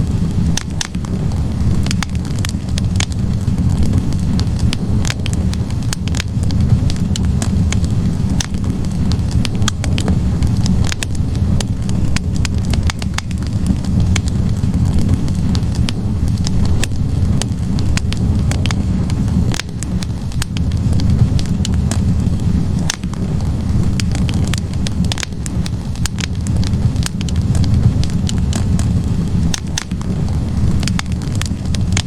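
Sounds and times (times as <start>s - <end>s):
logs crackling and popping: 0.0s - 32.0s
low rumble of flames: 0.0s - 32.0s.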